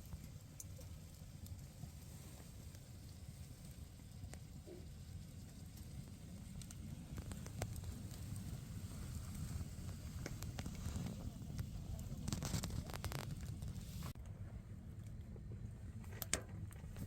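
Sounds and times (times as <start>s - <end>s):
fire crackling pops: 0.0s - 14.2s
wood fire rumbling: 0.0s - 17.0s.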